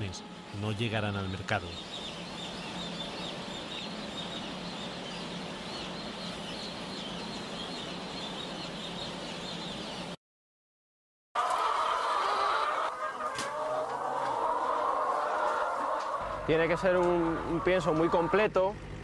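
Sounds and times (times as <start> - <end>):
chicks peeping: 0.6 - 10.2, 11.4 - 18.5.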